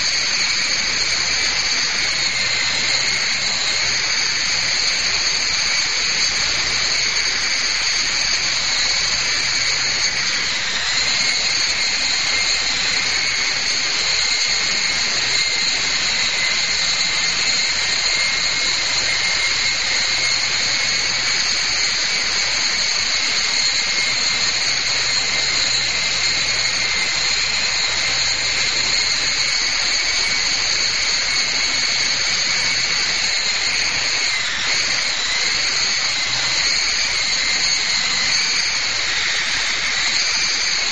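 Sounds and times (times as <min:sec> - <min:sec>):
helicopter rotors whining: 0:00.0 - 0:40.9.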